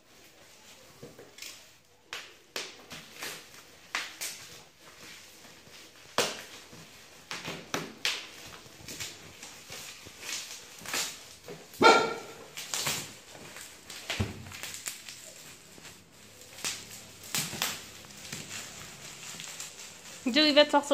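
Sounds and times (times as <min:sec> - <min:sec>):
plastic wrapping crinkling: 0:00.0 - 0:20.9.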